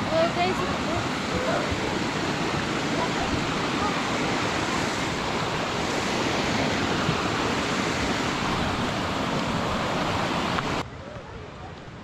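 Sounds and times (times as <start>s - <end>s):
fast-flowing creek water: 0.0s - 12.0s.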